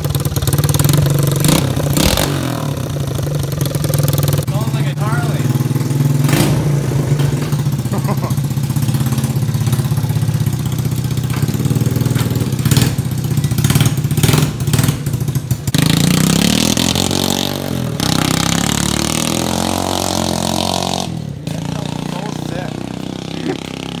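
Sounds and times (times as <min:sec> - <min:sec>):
quad engine revving: 0:00.0 - 0:24.0.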